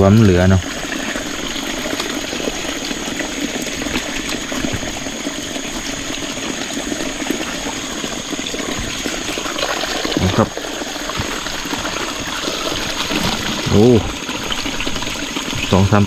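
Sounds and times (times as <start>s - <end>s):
rainwater runoff rushing: 0.0s - 16.0s.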